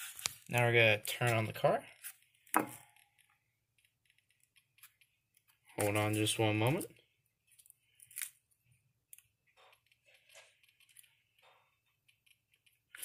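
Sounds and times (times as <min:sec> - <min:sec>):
faint clicks and rustles: 0:00.0 - 0:13.0.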